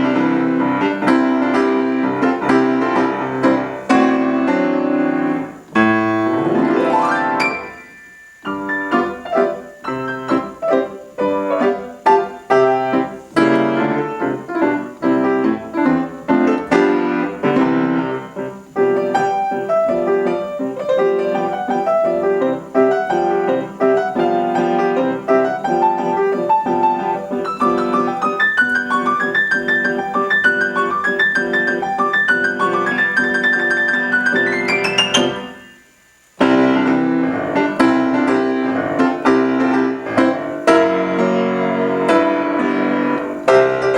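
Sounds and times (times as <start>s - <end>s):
solo piano playing: 0.0s - 43.9s.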